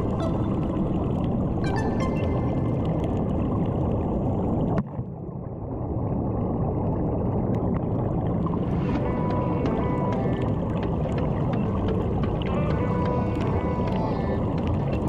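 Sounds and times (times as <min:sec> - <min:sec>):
underwater air bubbling: 0:00.0 - 0:15.0.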